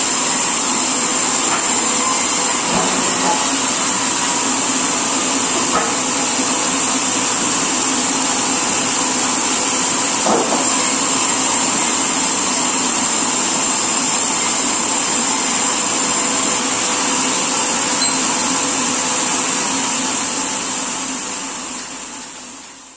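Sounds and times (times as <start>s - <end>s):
high machine whine: 0.0s - 22.9s
sawmill machinery running: 0.0s - 22.9s.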